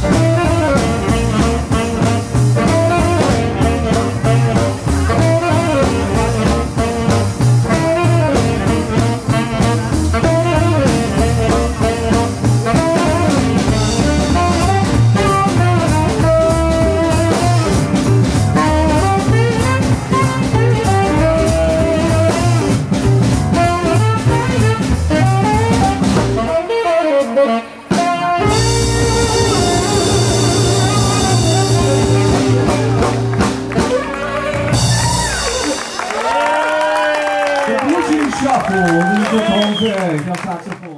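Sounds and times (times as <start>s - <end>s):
slapped upright bass: 0.0s - 26.6s, 28.1s - 36.5s
tenor saxophone lead: 0.0s - 37.2s
rhythm and blues band playing: 0.0s - 40.6s.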